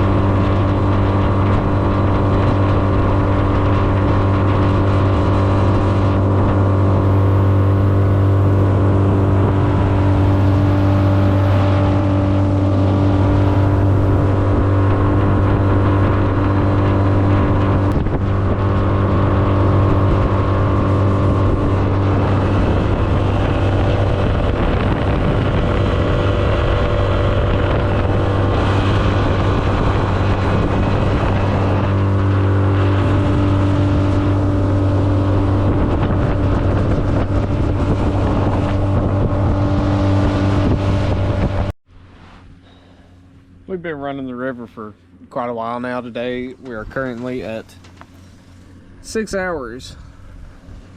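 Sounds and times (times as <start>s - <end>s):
wind on microphone: 0.0s - 41.8s, 45.9s - 50.9s
outboard motor running: 0.0s - 50.9s.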